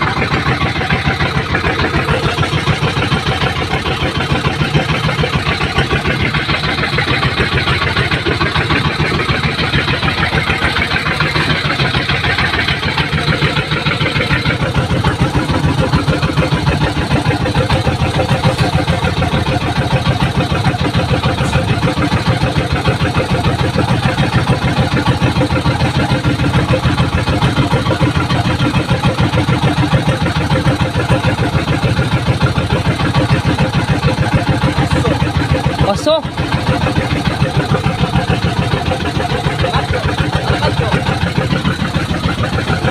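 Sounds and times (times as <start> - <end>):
boat engine chugging: 0.0 - 42.9.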